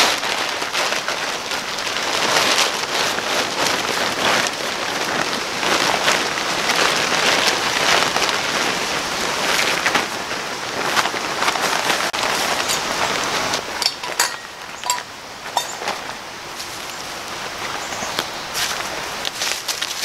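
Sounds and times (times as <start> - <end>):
dry leaves crunching: 0.0 - 20.0
plastic tarp crinkling: 0.0 - 20.0.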